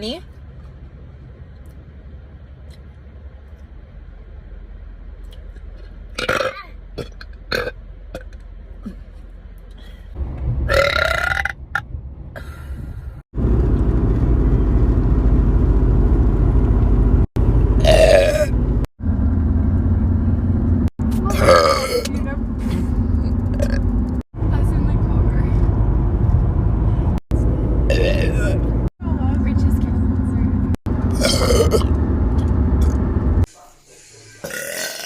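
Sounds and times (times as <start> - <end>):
steady low rumble: 0.0 - 34.7.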